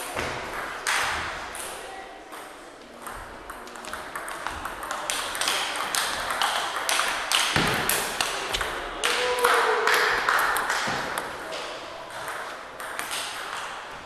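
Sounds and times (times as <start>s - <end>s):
ping pong ball clicking on paddles: 0.5s - 8.8s, 10.3s - 13.9s.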